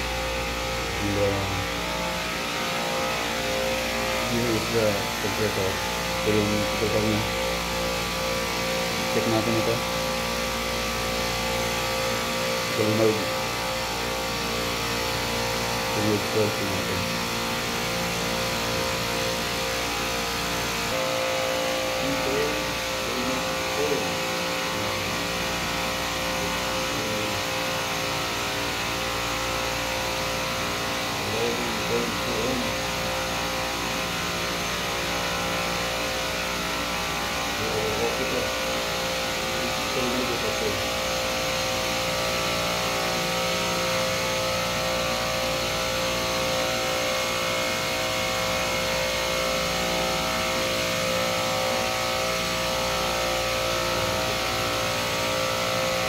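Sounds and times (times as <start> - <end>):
refrigeration compressors droning: 0.0 - 56.0.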